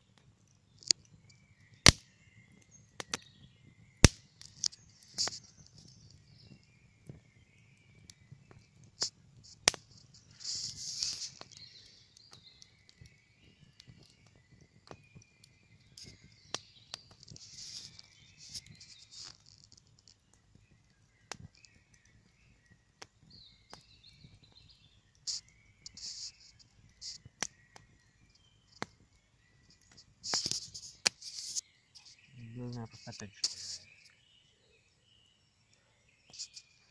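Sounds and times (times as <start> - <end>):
campfire crackling and popping: 0.0 - 36.9
songbirds singing: 0.0 - 36.9.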